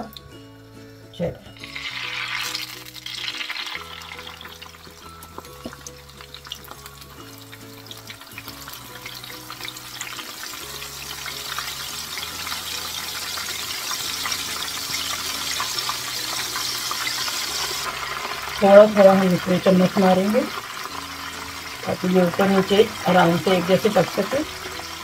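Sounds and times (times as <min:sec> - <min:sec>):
soft background music: 0:00.0 - 0:25.0
lentils sizzling in hot oil: 0:01.5 - 0:25.0.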